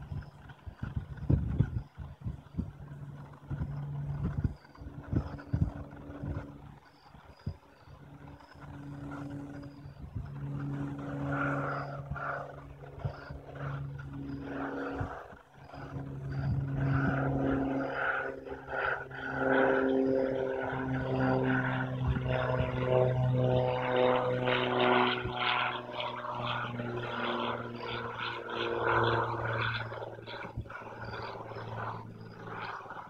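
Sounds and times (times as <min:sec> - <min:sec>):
engine droning hum: 0:00.0 - 0:33.0.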